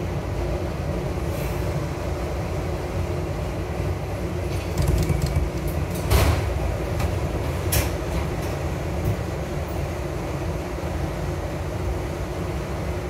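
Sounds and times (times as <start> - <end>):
subway train rumbling on rails: 0.0 - 13.0.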